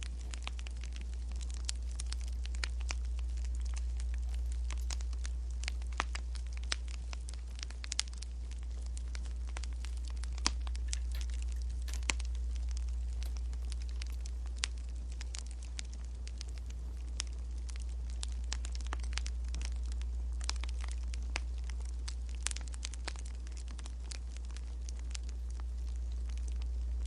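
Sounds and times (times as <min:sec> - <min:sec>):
steady low hum: 0:00.0 - 0:27.0
wood fire crackling and popping: 0:00.0 - 0:27.0.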